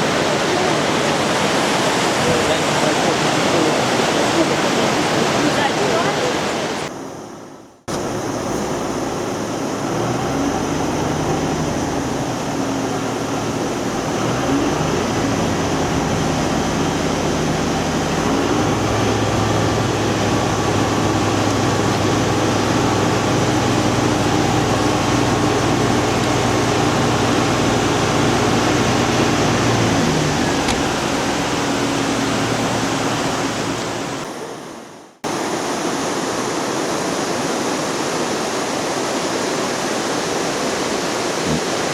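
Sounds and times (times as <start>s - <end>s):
waterfall rushing: 0.0s - 6.9s, 7.9s - 34.5s, 35.3s - 41.9s.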